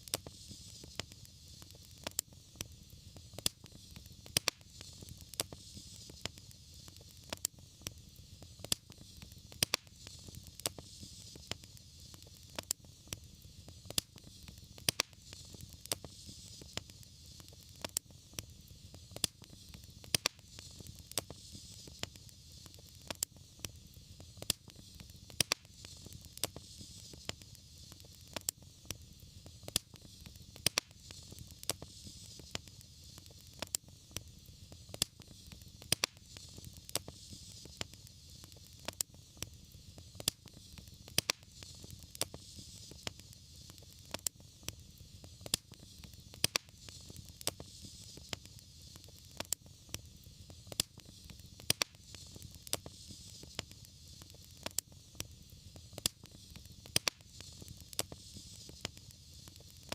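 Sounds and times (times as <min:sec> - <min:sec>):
steady hiss: 0:00.0 - 0:59.9
wood fire crackling: 0:00.0 - 0:59.9.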